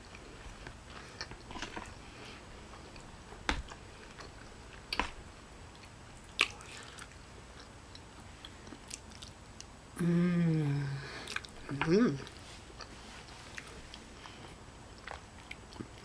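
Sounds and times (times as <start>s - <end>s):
wet chewing and mouth sounds: 0.0s - 9.7s, 11.2s - 16.0s.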